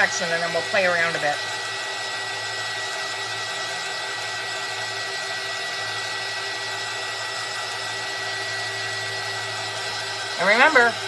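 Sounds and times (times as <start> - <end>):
heat gun blowing hot air: 0.0 - 11.0.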